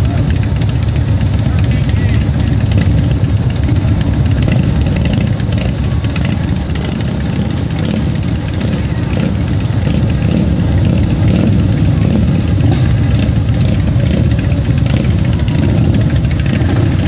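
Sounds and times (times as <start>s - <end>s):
motorcycle engines running: 0.0s - 17.0s.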